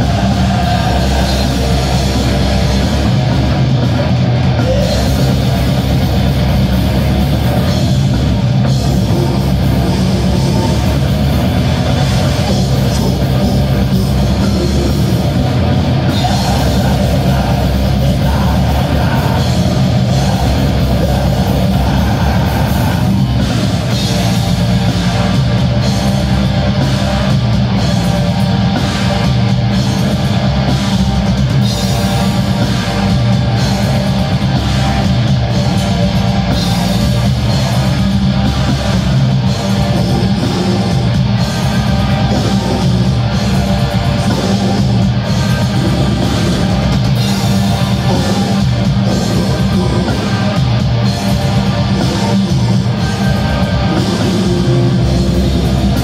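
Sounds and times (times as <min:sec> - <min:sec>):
distorted electric guitars: 0:00.0 - 0:56.0
drum kit beat: 0:00.0 - 0:56.0.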